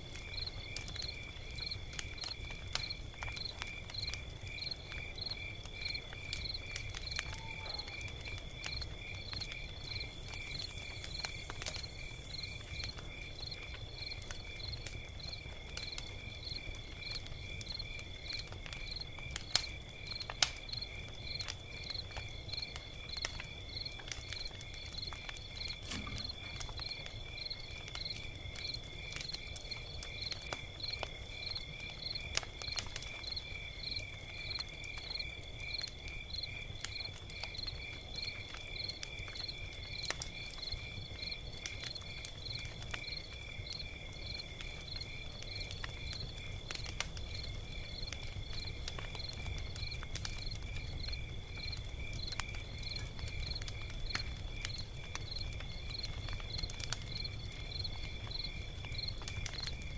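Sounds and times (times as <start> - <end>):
log fire crackling and popping: 0.0 - 59.9.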